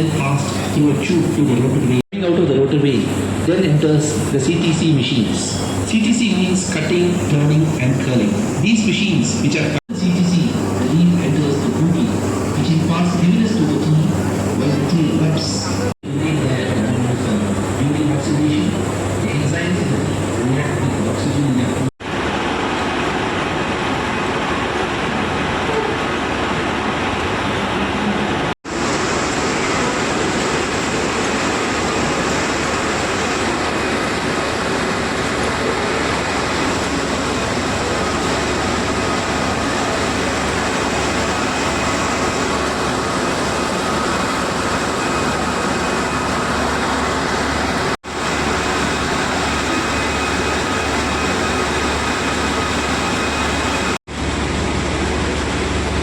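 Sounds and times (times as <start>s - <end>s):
factory machinery din: 0.0s - 56.0s.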